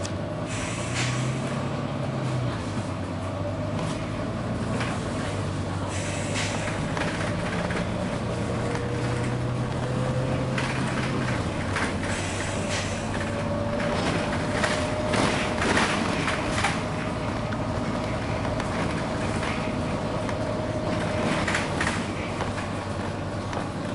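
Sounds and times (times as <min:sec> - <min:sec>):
bus diesel engine drone: 0:00.0 - 0:23.9.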